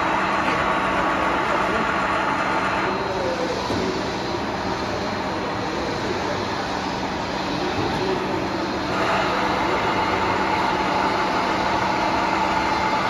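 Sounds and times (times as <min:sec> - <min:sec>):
milling machine whining: 0:00.0 - 0:13.0.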